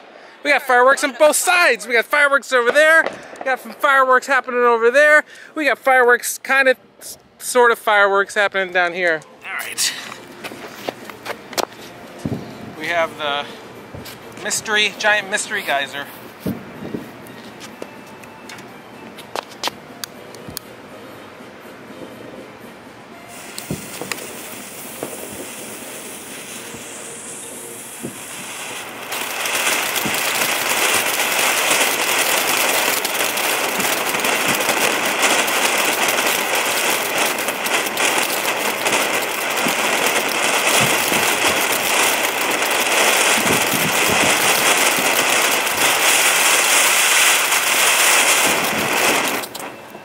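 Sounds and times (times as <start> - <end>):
firework fountain hissing and crackling: 0.0 - 20.9, 23.1 - 50.0.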